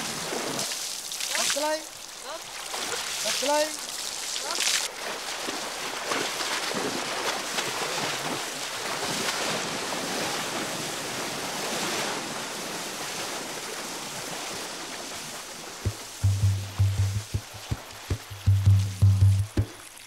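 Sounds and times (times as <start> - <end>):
river water splashing: 0.0 - 20.0.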